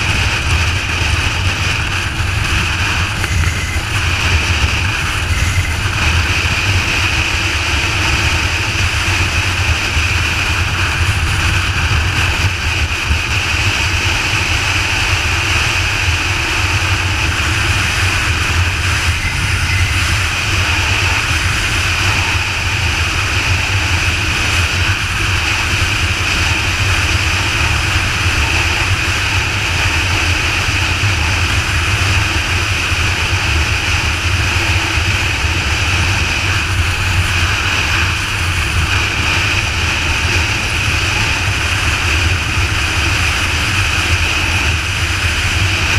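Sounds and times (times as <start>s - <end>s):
motorcycle engine drone: 0.0s - 45.9s
wind rushing over microphone: 0.0s - 45.9s.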